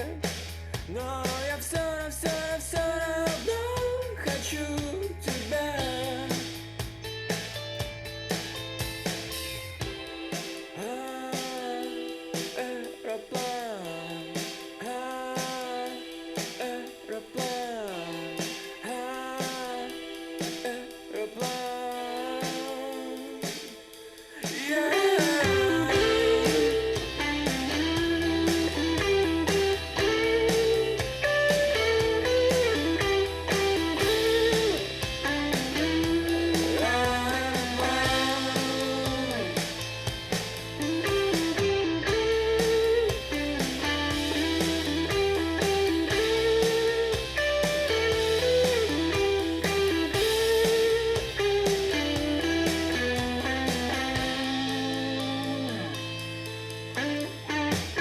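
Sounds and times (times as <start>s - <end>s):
instrumental music with lead guitar: 0.0s - 58.0s.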